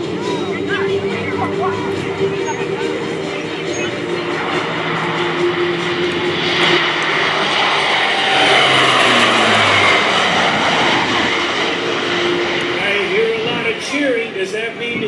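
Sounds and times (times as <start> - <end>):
turboprop aircraft flyby: 0.0 - 15.0.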